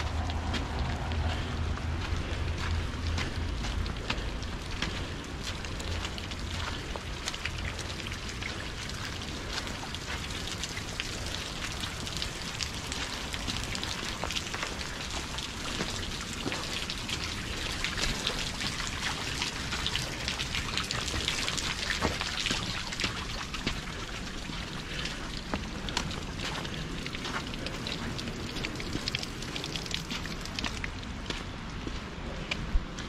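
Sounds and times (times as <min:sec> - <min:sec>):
low steady rumble: 0:00.0 - 0:33.0
rain drops ticking: 0:00.0 - 0:33.0.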